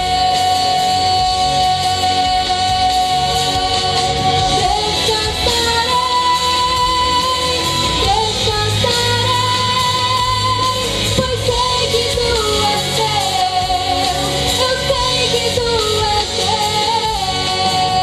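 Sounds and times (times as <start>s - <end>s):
instrumental backing: 0.0s - 18.0s
woman singing gospel: 0.0s - 18.0s.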